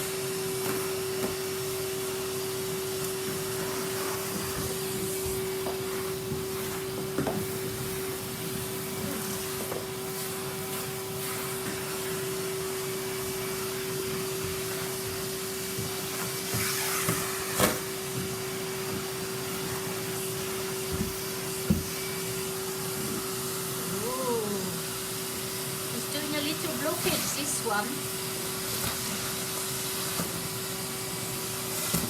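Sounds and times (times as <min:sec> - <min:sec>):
vacuum cleaner humming: 0:00.0 - 0:32.0.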